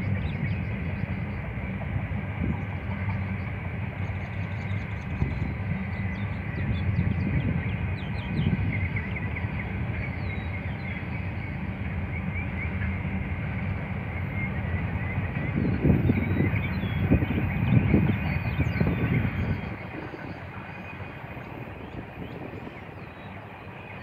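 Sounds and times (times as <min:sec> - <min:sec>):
birds chirping: 0:00.0 - 0:24.0
distant freight train rumbling: 0:00.0 - 0:24.0.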